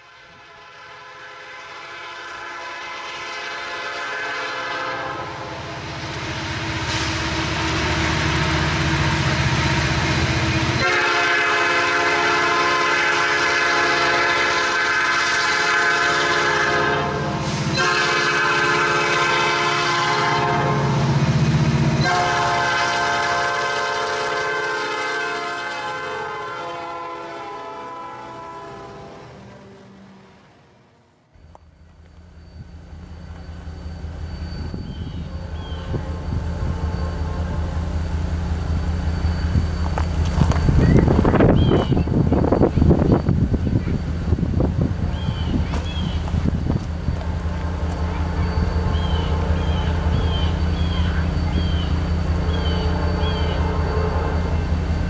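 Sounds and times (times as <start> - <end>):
diesel locomotive horn blasts: 0.0 - 30.3, 32.4 - 55.0
low train rumble: 0.0 - 55.0.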